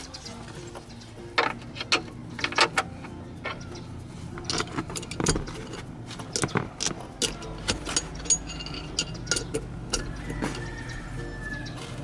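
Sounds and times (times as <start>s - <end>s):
metallic ratchet clicks and clinks: 0.8s - 11.6s.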